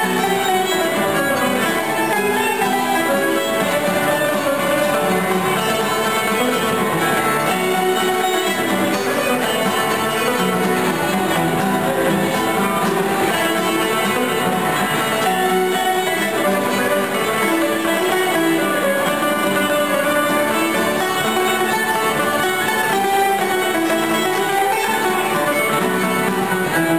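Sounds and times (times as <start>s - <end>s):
fiddles playing melody: 0.0s - 26.9s
plucked mandolin: 0.0s - 26.9s
strummed acoustic guitar: 0.0s - 26.9s.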